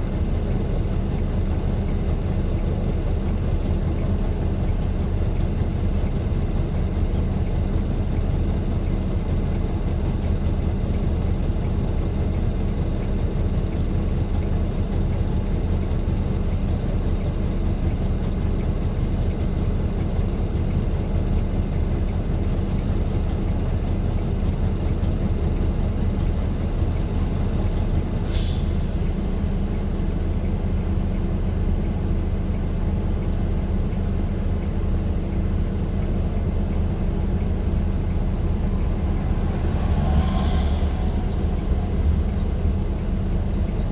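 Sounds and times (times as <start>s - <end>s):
vehicle engine droning: 0.0s - 43.9s.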